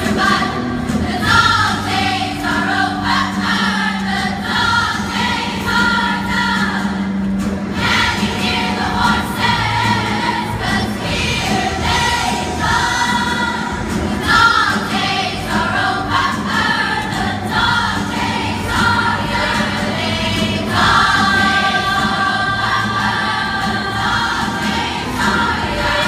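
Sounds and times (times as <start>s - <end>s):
girls choir singing: 0.0s - 26.0s
music: 0.0s - 26.0s.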